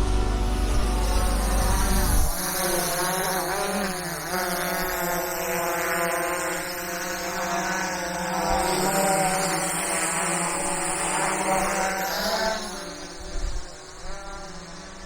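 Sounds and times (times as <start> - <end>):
drone buzzing whine: 0.0 - 15.0.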